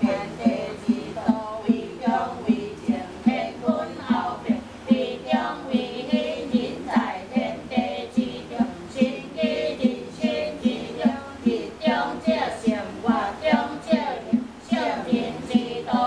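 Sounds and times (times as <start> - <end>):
women chanting in unison: 0.0 - 16.0.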